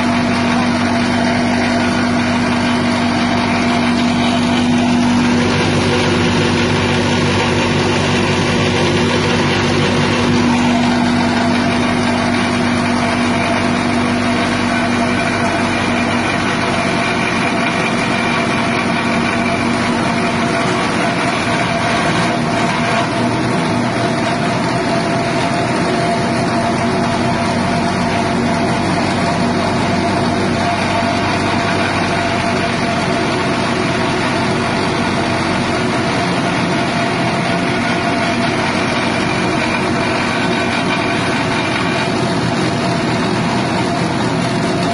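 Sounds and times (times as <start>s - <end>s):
grass chopper engine running: 0.0s - 44.9s.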